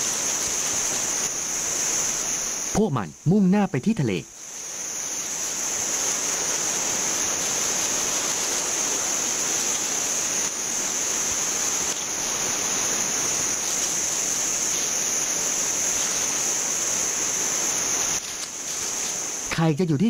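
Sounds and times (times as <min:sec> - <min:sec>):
even rushing hiss: 0:00.0 - 0:20.0
high-pitched insect drone: 0:00.0 - 0:20.0.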